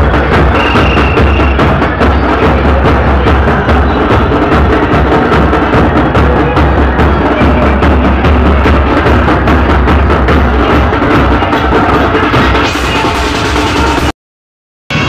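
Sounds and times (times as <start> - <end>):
loud music with booming bass: 0.0 - 14.1
steady drum beat: 0.0 - 14.1.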